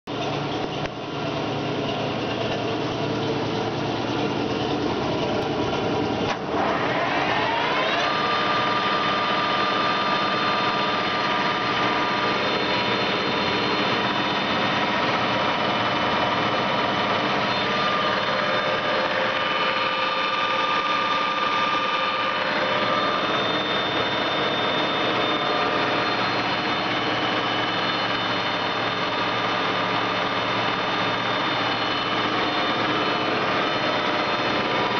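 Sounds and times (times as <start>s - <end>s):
lathe hum and gear whine: 0.1s - 34.9s.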